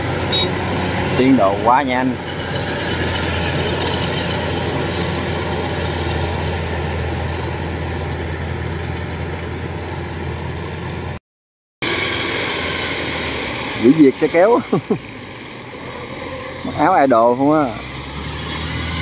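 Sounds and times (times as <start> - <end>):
combine harvester diesel drone: 0.0 - 11.2, 11.8 - 19.0.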